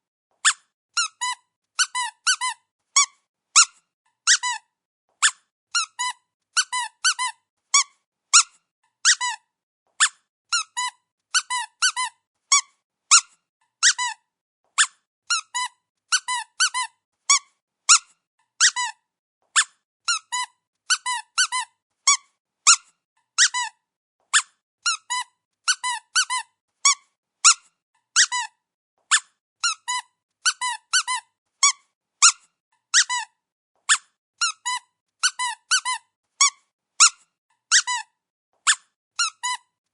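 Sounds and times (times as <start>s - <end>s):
squeaky dog toy squeaks: 0.4s - 39.8s.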